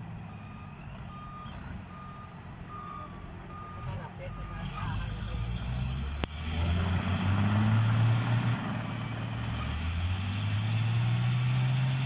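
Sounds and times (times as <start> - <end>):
diesel truck engine under load: 0.0 - 12.0.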